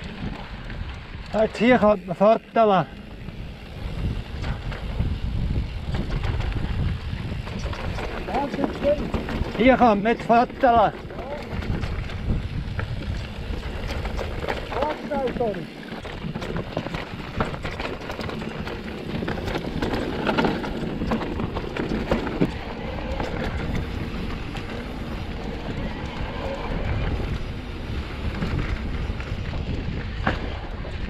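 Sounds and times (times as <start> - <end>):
bike tyres crunching on gravel: 0.0 - 31.0
wind on microphone: 2.9 - 31.0
bike knocks and rattles: 3.0 - 31.0.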